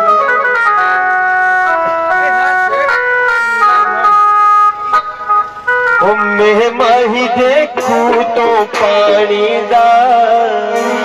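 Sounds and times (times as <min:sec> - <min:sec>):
reedy melody instrument: 0:00.0 - 0:11.0.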